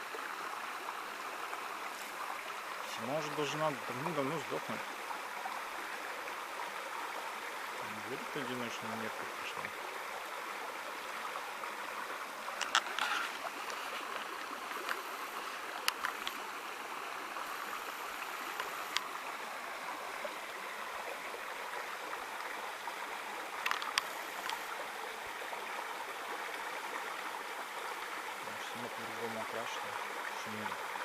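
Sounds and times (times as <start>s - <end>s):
stream running over stones: 0.0s - 31.0s.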